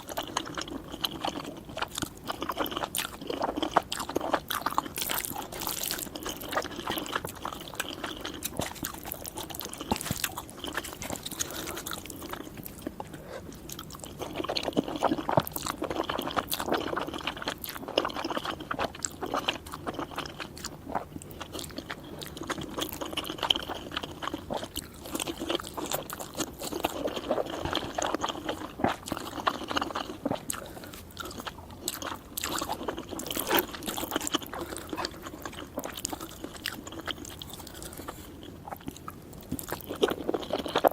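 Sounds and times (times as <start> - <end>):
person chewing noodles: 0.0 - 40.9.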